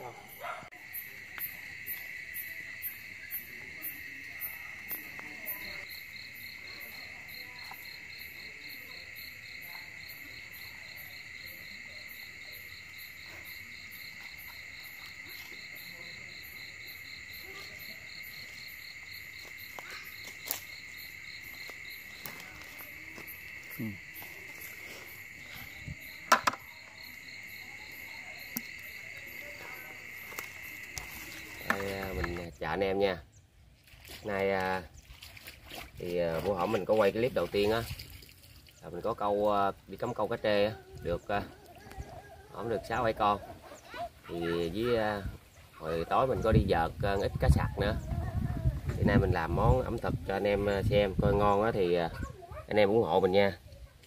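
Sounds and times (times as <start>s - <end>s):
crickets and insects trilling: 0.0s - 54.0s.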